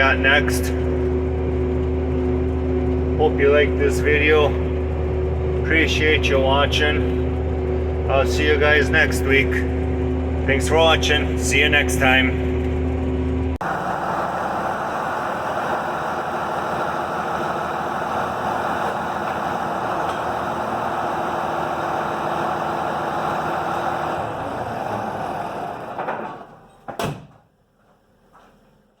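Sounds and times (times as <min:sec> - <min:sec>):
engine running: 0:00.0 - 0:26.9.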